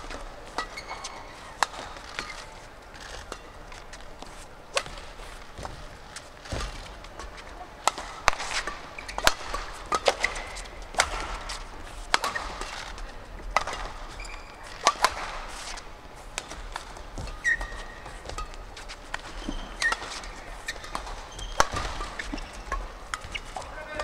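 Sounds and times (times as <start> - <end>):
rackets striking shuttlecock: 0.0 - 24.0
shoes squeaking on court: 0.0 - 24.0.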